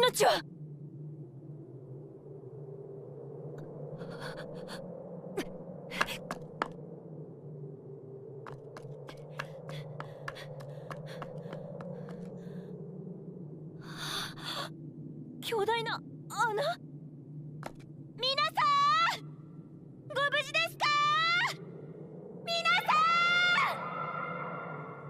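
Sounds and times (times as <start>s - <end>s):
low steady drone: 0.0s - 25.0s.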